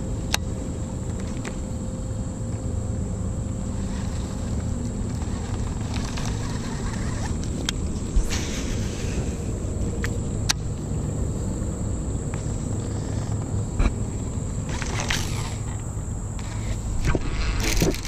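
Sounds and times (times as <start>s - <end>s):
high insect-like drone: 0.0s - 18.0s
steady low rumble: 0.0s - 18.0s.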